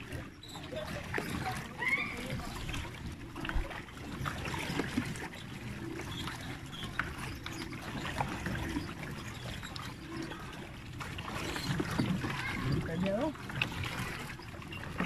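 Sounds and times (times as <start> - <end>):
water trickling and lapping: 0.0 - 15.0.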